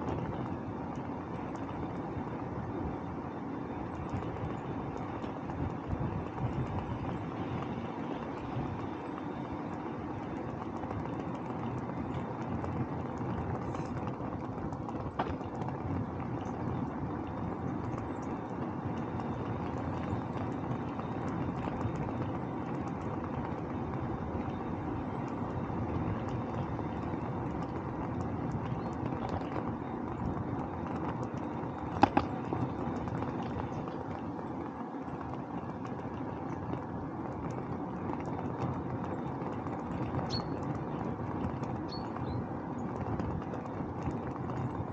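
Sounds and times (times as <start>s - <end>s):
bicycle rolling: 0.0s - 44.9s
bicycle ticks and clicks: 0.0s - 44.9s
wind noise: 0.0s - 44.9s.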